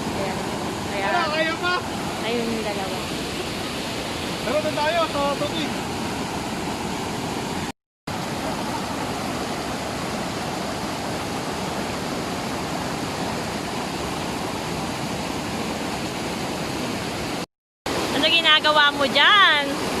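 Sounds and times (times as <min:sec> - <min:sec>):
waterfall roar: 0:00.0 - 0:20.0.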